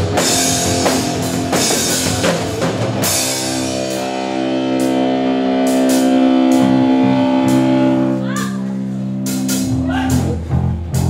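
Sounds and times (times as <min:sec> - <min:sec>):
rock music with drums and guitar: 0:00.0 - 0:11.0.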